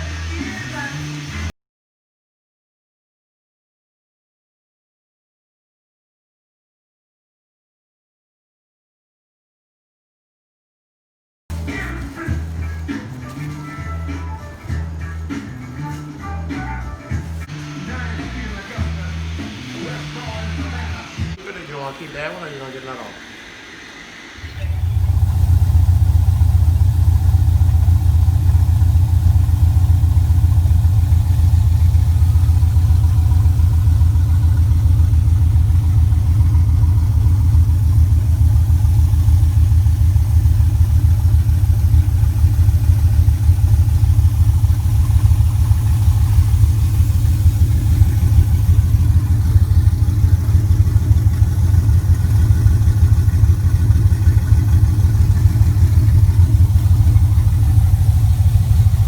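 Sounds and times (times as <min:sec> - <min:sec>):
engine idling: 0:00.0 - 0:01.5, 0:11.5 - 0:59.0.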